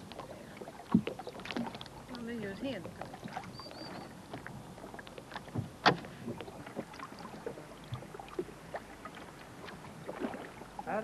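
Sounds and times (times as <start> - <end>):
knocks and clatter in rowboat: 0.0 - 11.0.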